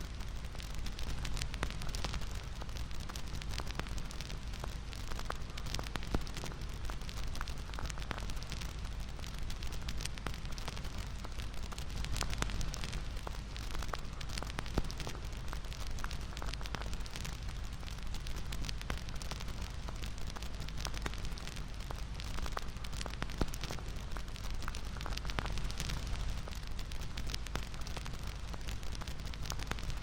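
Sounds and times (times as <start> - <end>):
bonfire crackling: 0.0 - 30.0
pops and snaps of burning wood: 0.1 - 30.0.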